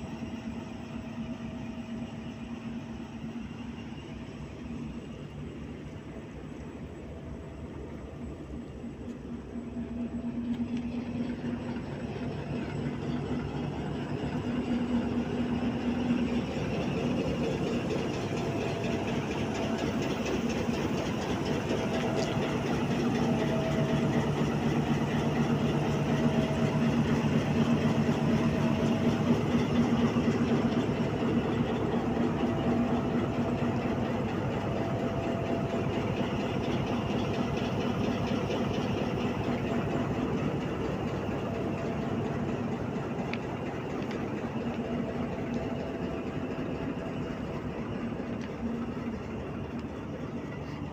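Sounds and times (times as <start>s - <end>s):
locomotive engine humming: 0.0s - 50.9s.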